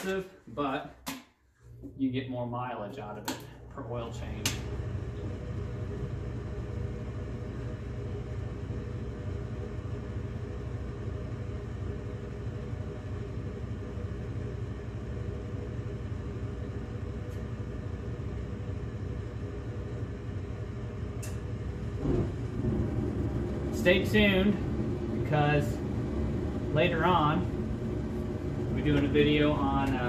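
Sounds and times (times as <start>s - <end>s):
low rumble and hiss: 1.9s - 30.0s.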